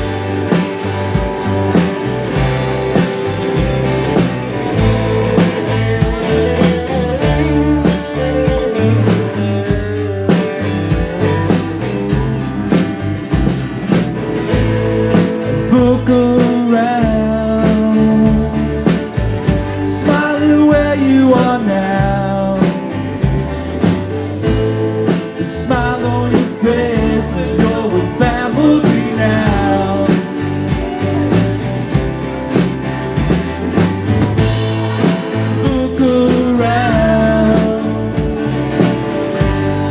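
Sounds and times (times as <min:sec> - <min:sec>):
live blues-rock band: 0:00.0 - 0:39.9.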